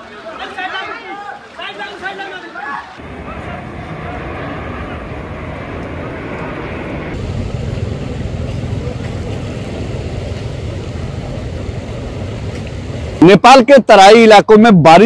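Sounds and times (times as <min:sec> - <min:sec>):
floodwater rushing: 0:00.0 - 0:14.0
wind: 0:00.0 - 0:15.0.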